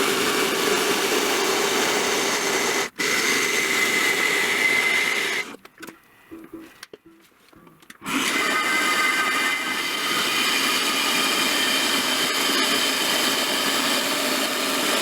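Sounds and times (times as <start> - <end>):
power tool whining: 0.0 - 5.6, 8.0 - 15.0.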